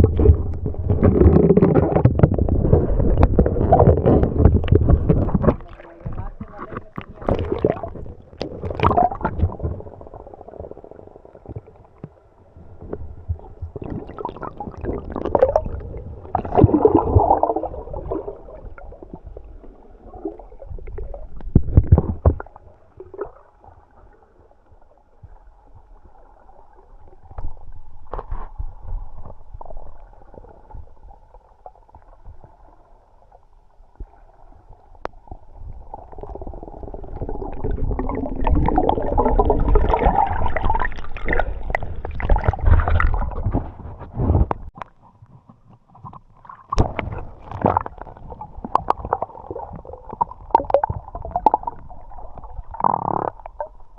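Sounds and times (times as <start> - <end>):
gurgling water underwater: 0.0 - 53.9.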